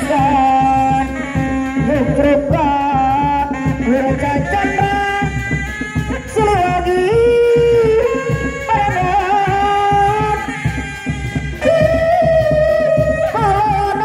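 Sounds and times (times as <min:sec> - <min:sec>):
steady drumming: 0:00.0 - 0:14.0.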